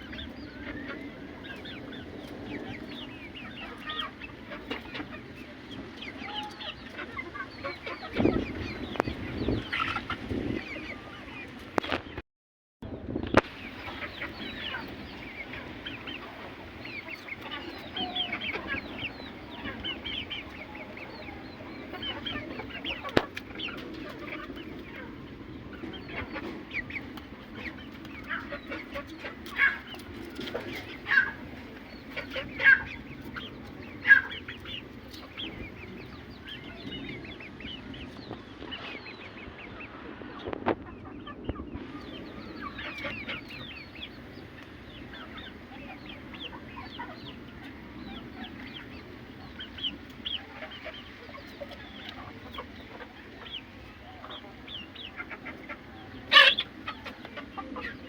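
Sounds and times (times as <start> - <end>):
chickens clucking and calling: 0.0 - 12.2, 13.2 - 58.0.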